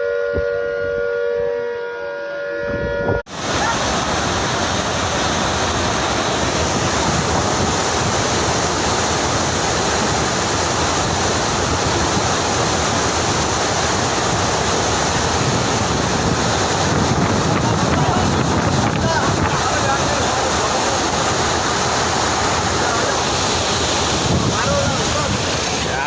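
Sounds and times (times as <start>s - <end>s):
water rushing through floodgates: 3.3s - 26.0s.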